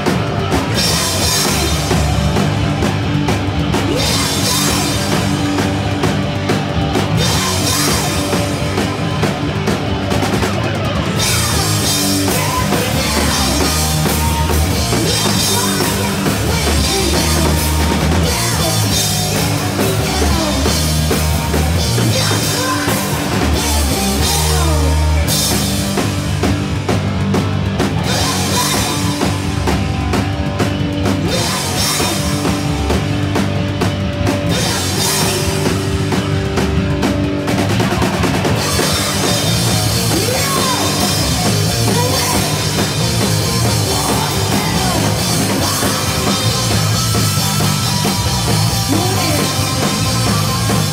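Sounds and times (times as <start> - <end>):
drum kit pounding: 0.0 - 50.9
electric guitars: 0.0 - 50.9.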